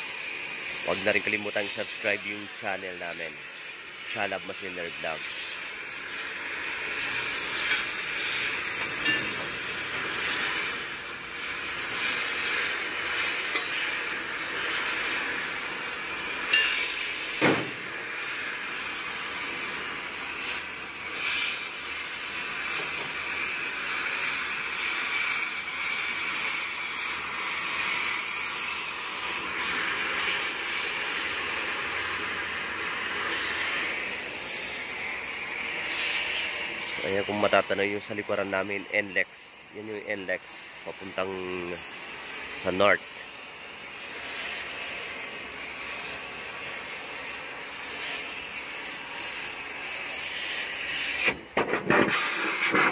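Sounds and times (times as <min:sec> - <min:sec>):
cutting torch hissing: 0:00.0 - 0:52.9.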